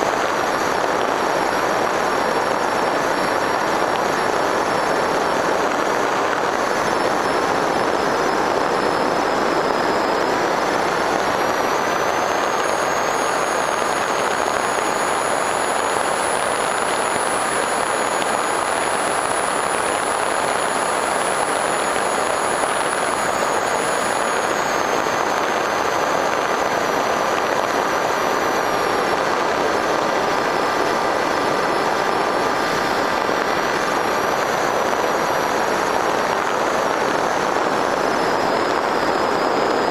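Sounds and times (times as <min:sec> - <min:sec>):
electric motor whine: 0:00.0 - 0:39.9
wind rush and propeller noise: 0:00.0 - 0:39.9.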